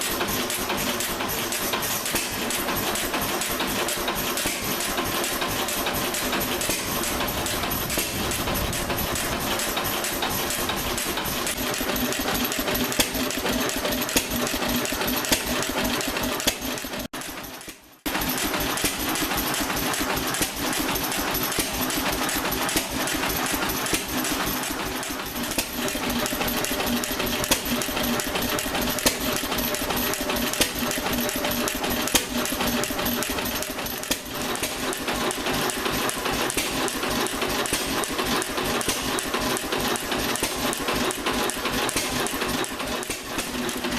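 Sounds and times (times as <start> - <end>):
stationary engine running: 0.0 - 43.9.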